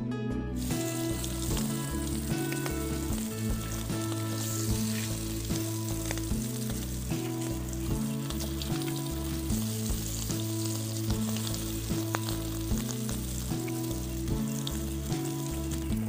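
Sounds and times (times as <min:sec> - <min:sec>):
background music with bass: 0:00.0 - 0:16.0
oil sizzling and crackling: 0:00.6 - 0:16.0
spoon stirring through oil: 0:00.6 - 0:16.0.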